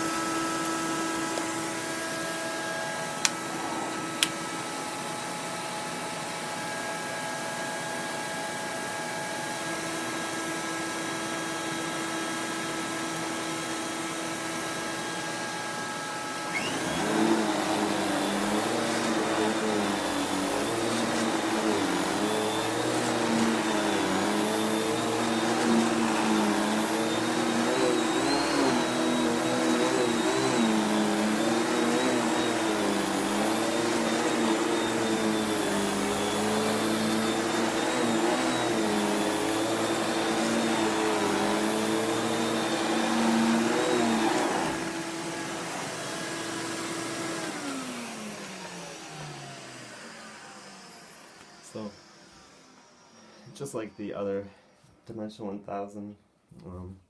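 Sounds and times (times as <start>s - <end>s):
vacuum cleaner whining: 0.0s - 55.0s.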